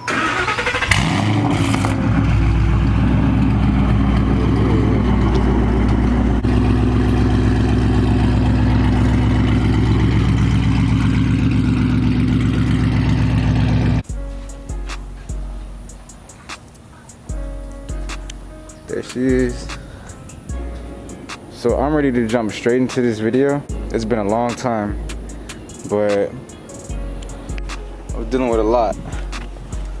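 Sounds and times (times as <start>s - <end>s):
car engine starting and idling: 0.0s - 22.7s, 26.9s - 30.0s.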